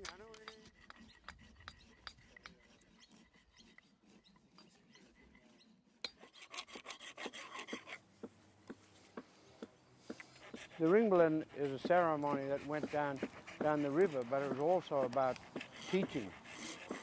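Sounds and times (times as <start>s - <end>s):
stone scraping wood: 0.0s - 8.0s, 10.1s - 17.0s.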